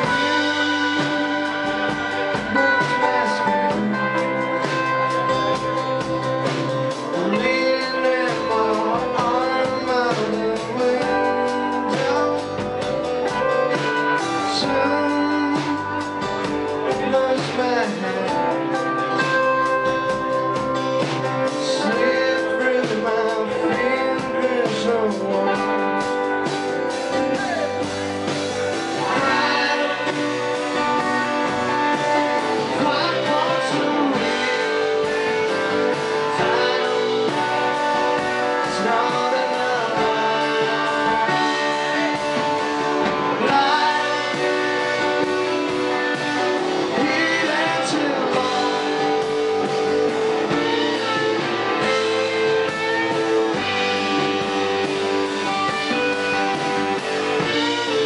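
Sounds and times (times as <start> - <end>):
live band playing blues rock: 0.0 - 58.0
person singing: 0.0 - 58.0.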